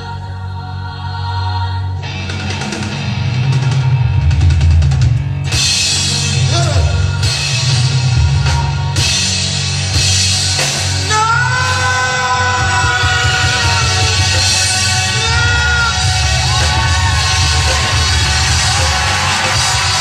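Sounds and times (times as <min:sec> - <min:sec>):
rock band playing live: 0:02.0 - 0:20.0.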